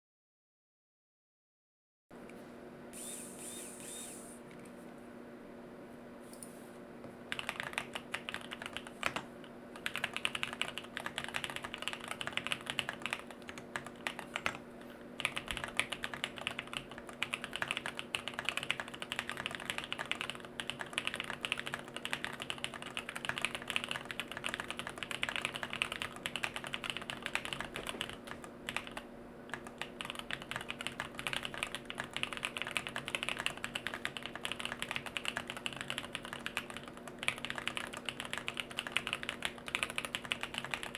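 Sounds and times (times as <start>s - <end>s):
fast typing on mechanical keyboard: 7.3s - 14.6s, 15.2s - 40.9s.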